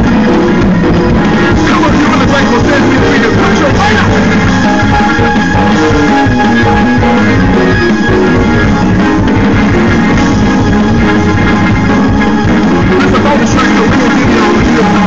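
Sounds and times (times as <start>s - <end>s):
band music with guitar and drums: 0.0s - 15.0s.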